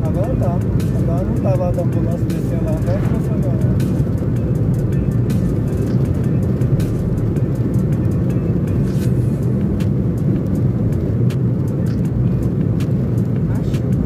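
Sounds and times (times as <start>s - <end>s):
car tyres and engine drone: 0.0s - 14.0s.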